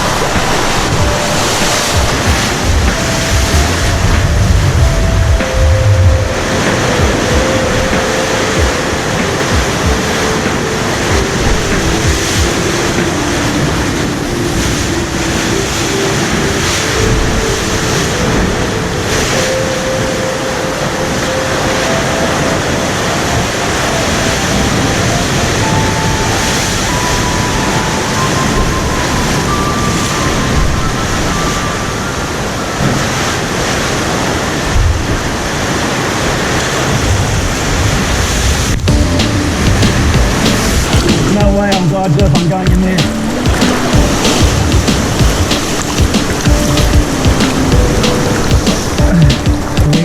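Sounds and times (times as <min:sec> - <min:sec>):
surf washing over rocks: 0:00.0 - 0:50.0
wind on microphone: 0:00.0 - 0:50.0.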